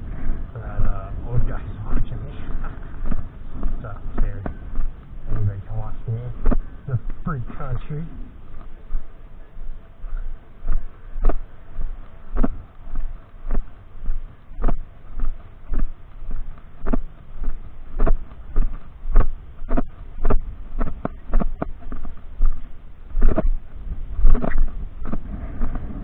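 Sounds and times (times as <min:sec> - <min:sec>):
footsteps walking: 0:00.0 - 0:26.0.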